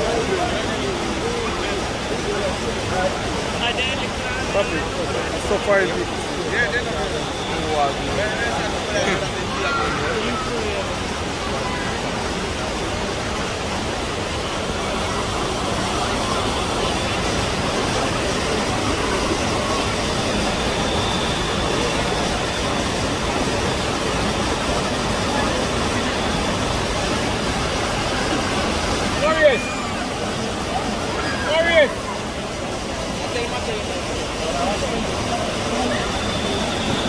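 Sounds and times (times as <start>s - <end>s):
waterfall rushing into pool: 0.0s - 37.0s.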